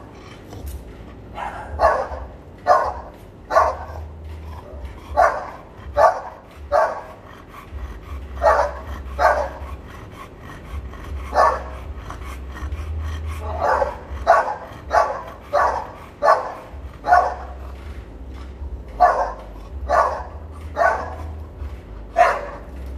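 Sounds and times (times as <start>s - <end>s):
low steady hum: 0.0s - 22.9s
dog barking: 1.3s - 7.2s, 8.2s - 10.1s, 11.0s - 17.8s, 19.0s - 22.9s.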